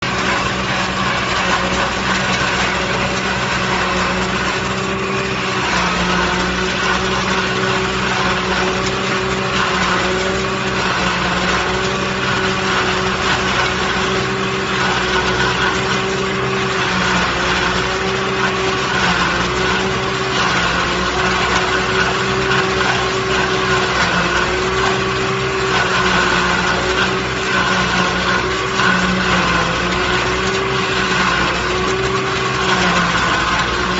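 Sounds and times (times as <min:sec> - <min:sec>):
harvester cutter whining: 0:00.0 - 0:33.9
tractor engine running: 0:00.0 - 0:33.9.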